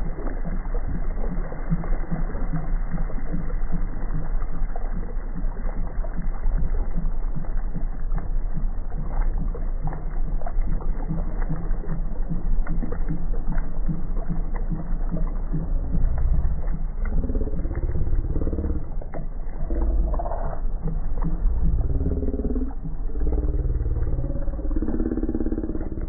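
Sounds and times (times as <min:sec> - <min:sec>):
faint steady pulsing: 0:00.0 - 0:26.0
small splashy ticks: 0:00.0 - 0:26.0.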